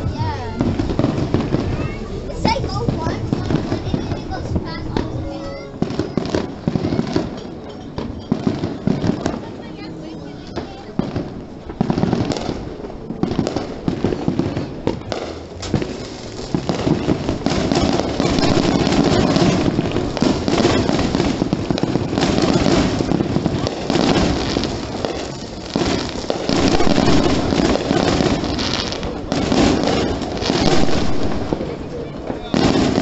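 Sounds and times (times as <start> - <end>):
fireworks and firecrackers: 0.0 - 33.0.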